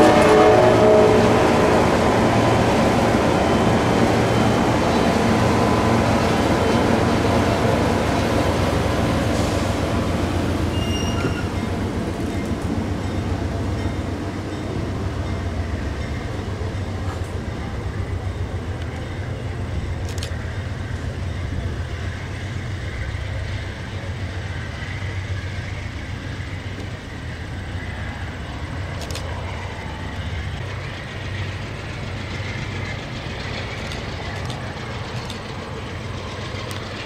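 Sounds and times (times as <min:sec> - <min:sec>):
diesel locomotive drone: 0:00.0 - 0:37.0
train wheels rumbling on rail: 0:00.0 - 0:37.0.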